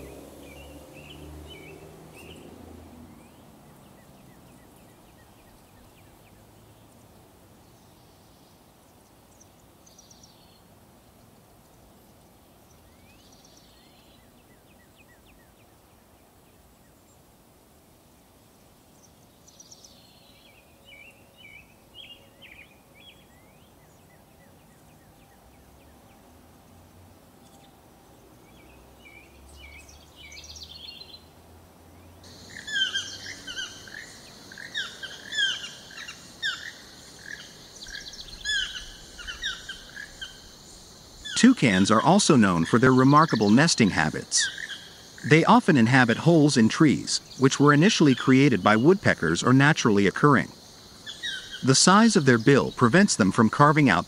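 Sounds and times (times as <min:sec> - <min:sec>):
birds chirping in forest: 0:00.0 - 0:54.0.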